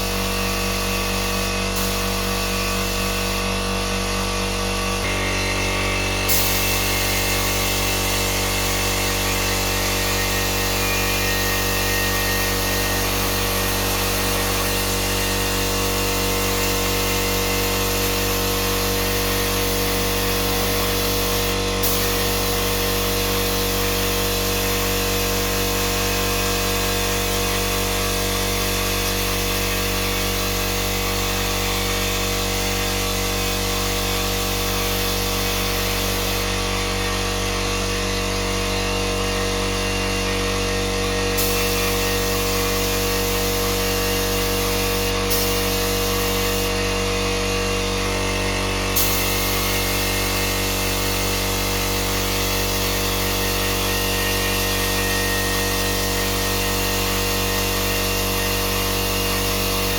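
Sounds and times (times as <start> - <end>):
heat gun motor humming: 0.0 - 59.9.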